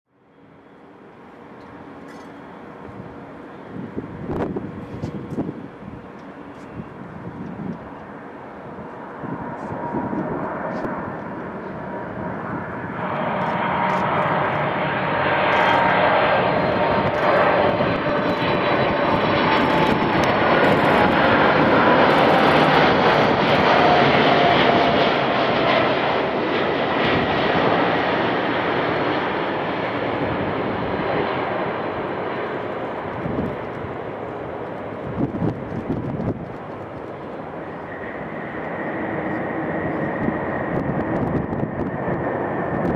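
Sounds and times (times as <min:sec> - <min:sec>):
jet engine rumble with whine: 0:00.2 - 0:42.9.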